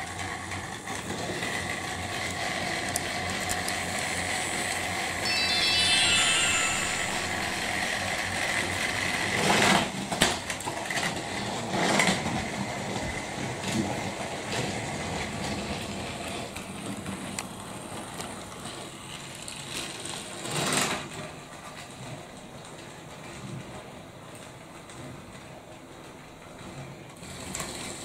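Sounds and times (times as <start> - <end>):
sharp clacks of toy trains: 0.0 - 6.4, 9.4 - 28.0.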